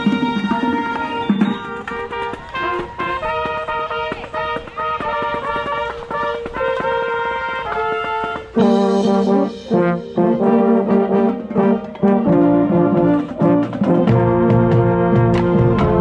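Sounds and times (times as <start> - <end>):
percussion taps: 0.0 - 9.9, 11.2 - 16.0
baritone horn: 0.0 - 16.0
marching band brass playing: 0.0 - 16.0.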